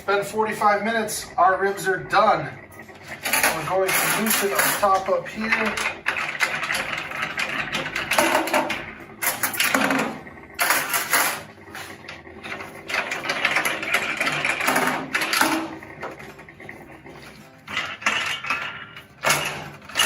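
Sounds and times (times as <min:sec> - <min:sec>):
metal lid scraping and rattling: 0:02.7 - 0:20.0.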